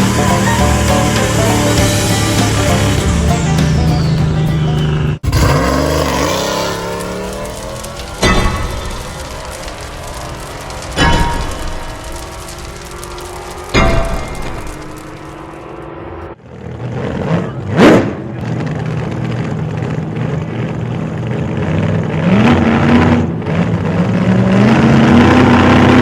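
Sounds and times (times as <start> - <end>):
vehicle engine accelerating: 0.0 - 26.0.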